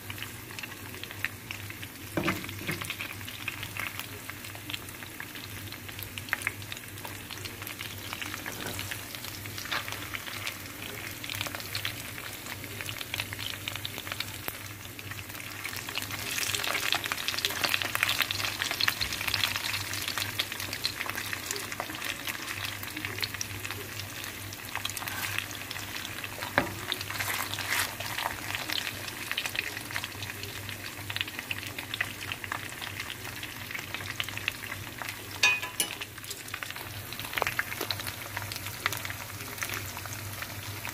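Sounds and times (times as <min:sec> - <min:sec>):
steak sizzling in hot oil: 0:00.0 - 0:40.9.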